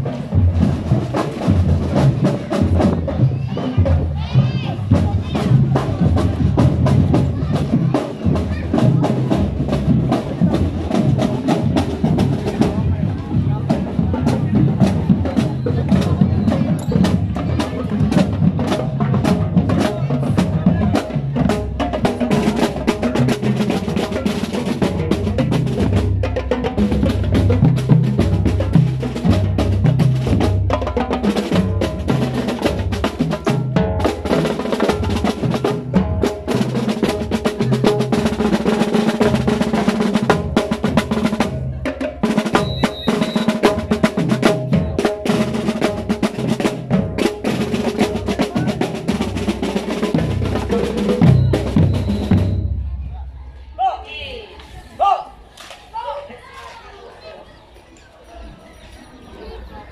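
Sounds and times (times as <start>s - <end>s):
snare drums: 0.0s - 53.0s
bass drums: 0.0s - 53.3s
tenor drums: 0.0s - 54.2s.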